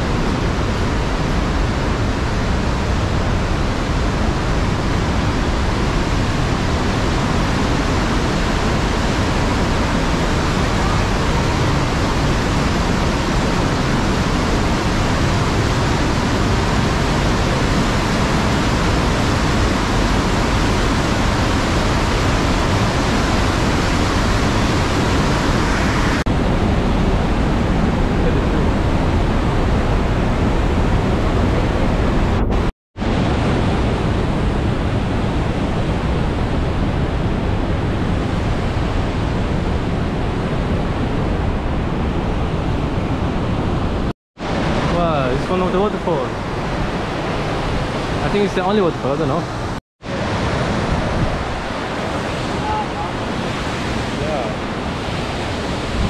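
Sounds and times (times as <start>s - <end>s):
mountain torrent rushing: 0.0s - 56.0s.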